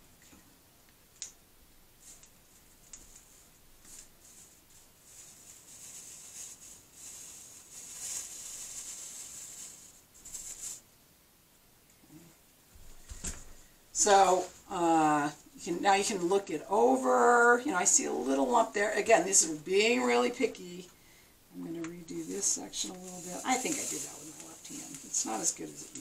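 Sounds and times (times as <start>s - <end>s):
steady high hiss: 0.0s - 26.0s
solder flux sizzling and crackling: 0.2s - 10.9s, 13.9s - 26.0s.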